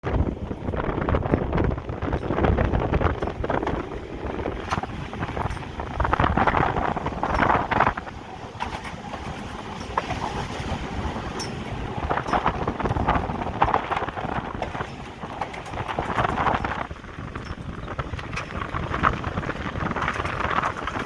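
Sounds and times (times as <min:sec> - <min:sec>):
locomotive cab rumble: 0:00.0 - 0:21.0
clattering and knocking: 0:00.6 - 0:21.0.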